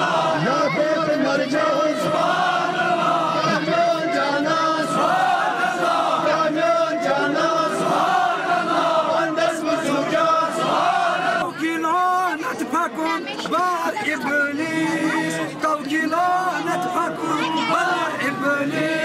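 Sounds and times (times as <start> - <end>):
person leading chant over microphone: 0.0 - 12.2, 13.9 - 19.0
crowd of men chanting: 0.0 - 19.0.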